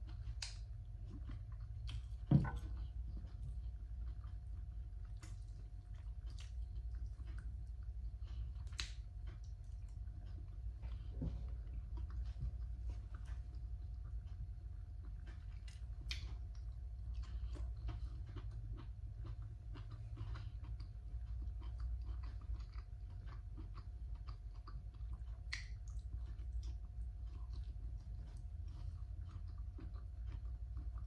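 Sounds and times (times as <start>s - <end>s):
chewing green beans: 0.0s - 31.0s
steady low hum: 0.0s - 31.0s.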